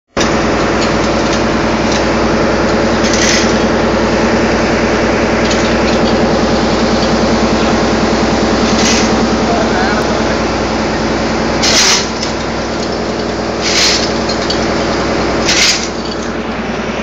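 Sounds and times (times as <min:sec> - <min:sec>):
heavy machinery throbbing: 0:00.1 - 0:17.0.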